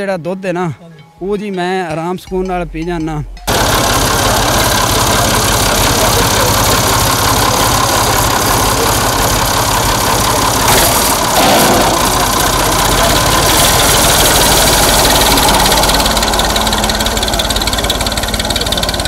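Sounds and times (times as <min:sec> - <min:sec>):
tractor diesel engine under load: 0:03.5 - 0:19.0.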